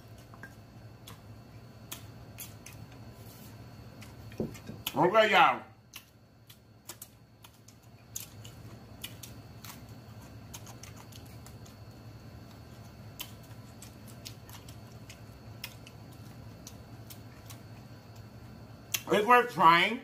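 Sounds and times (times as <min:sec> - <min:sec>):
person chewing food: 0:00.0 - 0:05.0, 0:05.8 - 0:19.1
faint low hum: 0:00.0 - 0:20.0.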